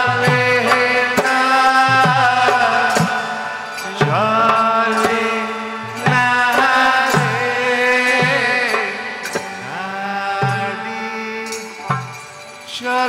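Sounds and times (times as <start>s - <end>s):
sustained folk melody: 0.0s - 13.0s.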